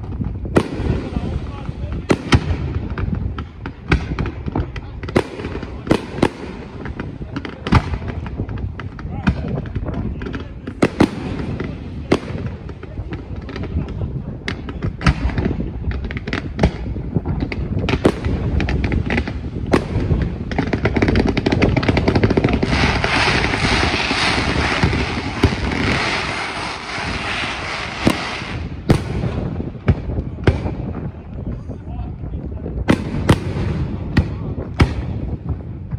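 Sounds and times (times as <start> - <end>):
firework shells bursting with bangs: 0.0 - 31.1
dense firework crackling: 0.0 - 35.9.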